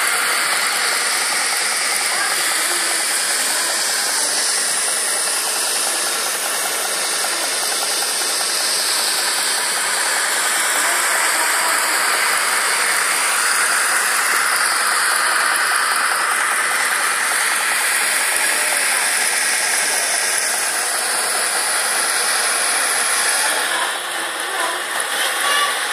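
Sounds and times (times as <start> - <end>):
gas burner flame hissing: 0.0 - 25.9.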